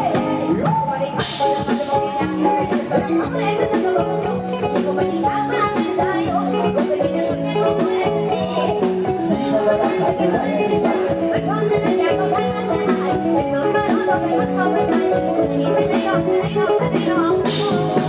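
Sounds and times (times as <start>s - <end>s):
instrumental melody line: 0.0s - 18.0s.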